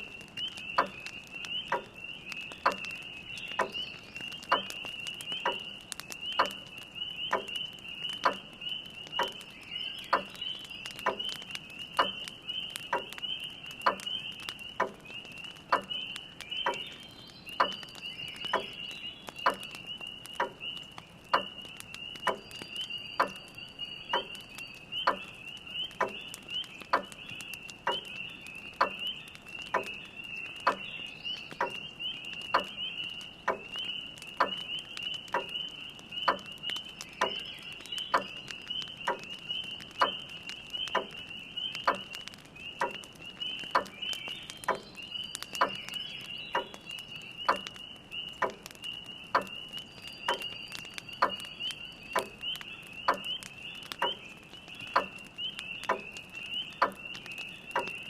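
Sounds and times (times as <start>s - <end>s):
spring peepers peeping: 0.0s - 58.0s
wood fire crackling: 0.0s - 58.0s.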